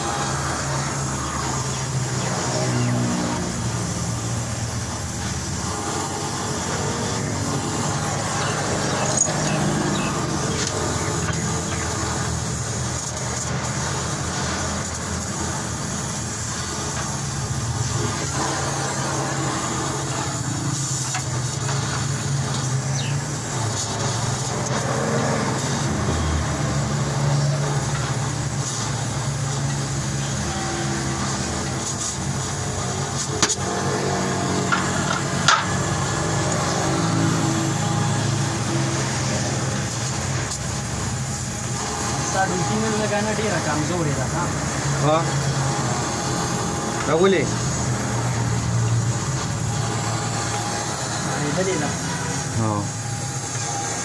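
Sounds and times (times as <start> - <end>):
gas welding torch burning: 0.0 - 54.0.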